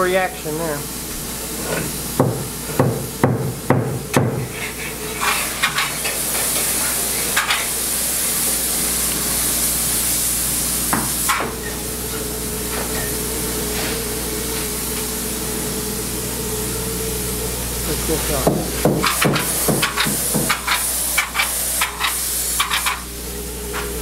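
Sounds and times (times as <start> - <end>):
steady hum: 0.0 - 24.0
spray foam gun hissing: 1.3 - 23.6.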